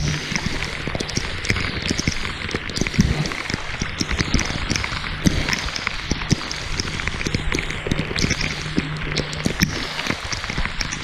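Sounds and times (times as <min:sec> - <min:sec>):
raindrops tapping on camera: 0:00.0 - 0:11.0.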